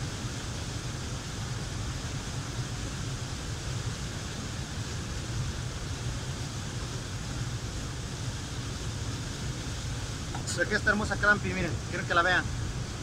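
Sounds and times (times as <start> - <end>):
waterfall rushing: 1.1 - 13.0.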